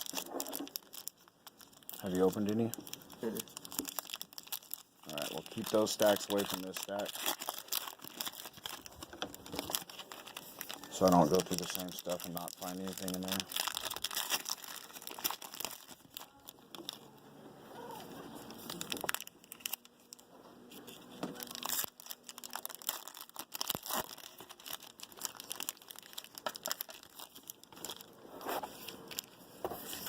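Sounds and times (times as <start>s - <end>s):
cards shuffled with rustles and clicks: 0.0s - 1.3s, 1.9s - 17.2s, 17.8s - 30.0s
foil wrappers crinkling and tearing: 0.0s - 17.2s, 17.8s - 30.0s.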